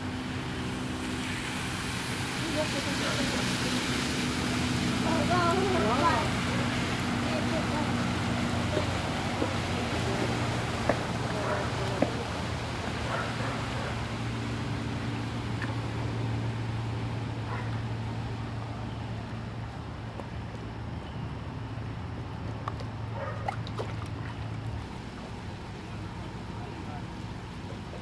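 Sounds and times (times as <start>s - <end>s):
vehicle engine running: 0.0s - 23.3s.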